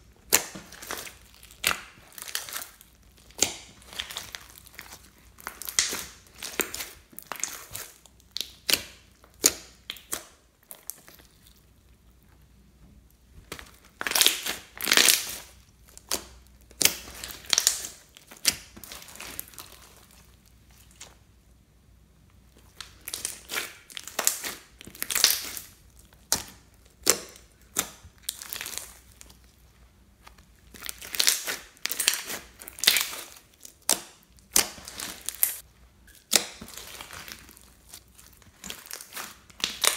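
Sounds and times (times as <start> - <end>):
slime squishing and popping: 0.2 - 11.6, 13.5 - 21.2, 22.6 - 29.5, 30.5 - 39.9.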